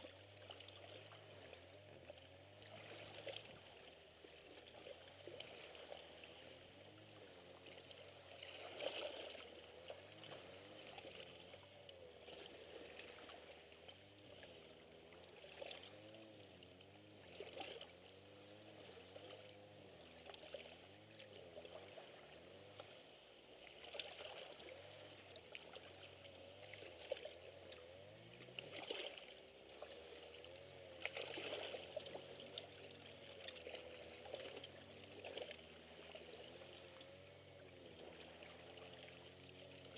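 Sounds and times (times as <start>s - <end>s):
small waves lapping on rocks: 0.0s - 39.9s.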